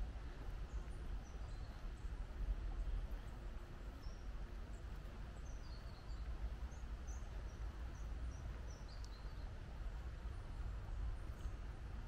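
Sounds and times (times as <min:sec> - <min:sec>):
small birds chirping: 0:00.0 - 0:11.8
low background rumble: 0:00.0 - 0:12.0.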